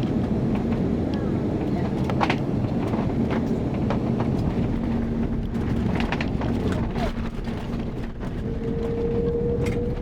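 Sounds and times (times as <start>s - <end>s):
airliner cabin rumble and hum: 0.0s - 10.0s.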